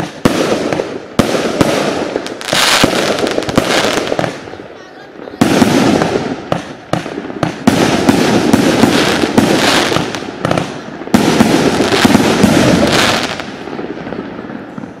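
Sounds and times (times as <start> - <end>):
fireworks cake firing shots: 0.0 - 4.5, 5.2 - 15.0.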